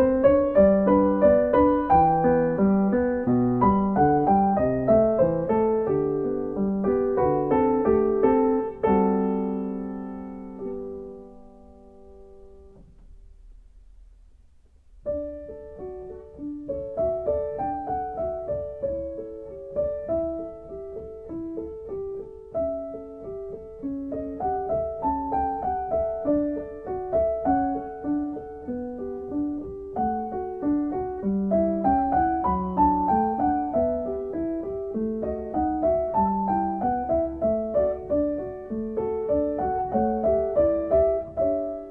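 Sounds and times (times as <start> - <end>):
piano music: 0.0 - 14.0, 14.8 - 41.9.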